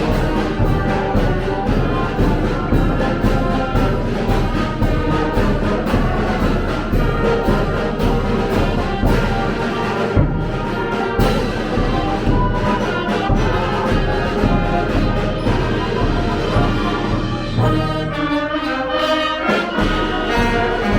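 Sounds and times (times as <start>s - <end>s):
brass-led orchestral music: 0.0s - 20.9s.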